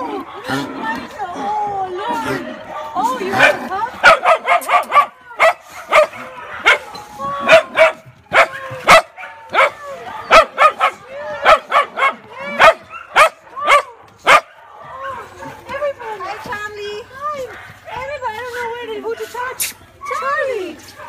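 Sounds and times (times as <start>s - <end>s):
dogs barking and yipping: 2.1s - 21.0s.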